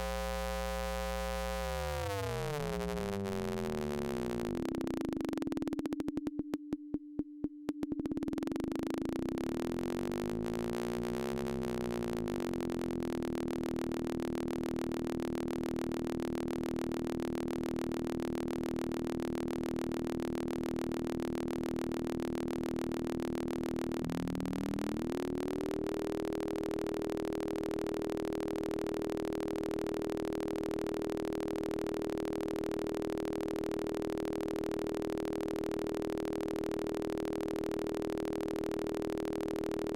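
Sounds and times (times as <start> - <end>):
low electronic synthesizer hum: 0.0 - 37.2.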